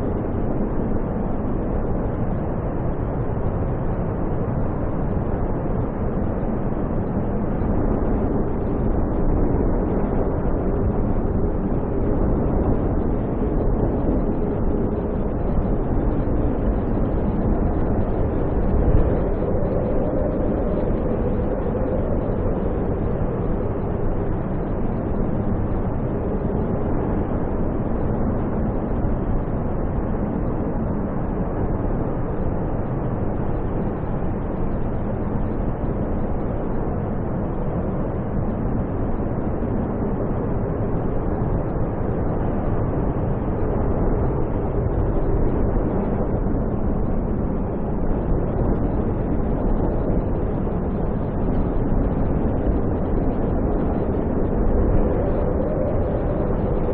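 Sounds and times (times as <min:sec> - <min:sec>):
snowstorm wind blowing: 0:00.0 - 0:56.9.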